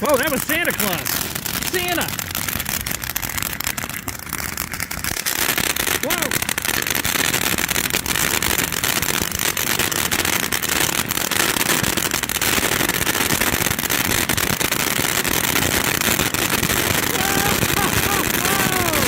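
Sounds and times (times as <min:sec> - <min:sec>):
firework fountain hissing and crackling: 0:00.0 - 0:19.0.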